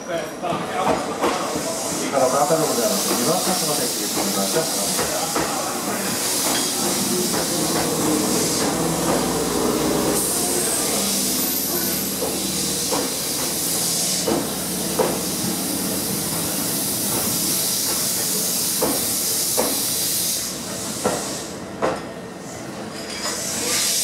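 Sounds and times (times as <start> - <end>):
train hiss: 1.0 - 24.0.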